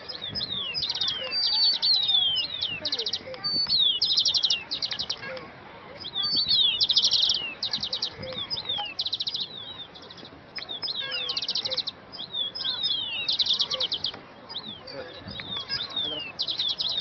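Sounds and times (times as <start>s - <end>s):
songbirds trilling: 0.0s - 17.0s
downward-slurred bird whistles: 0.1s - 5.2s, 6.0s - 17.0s.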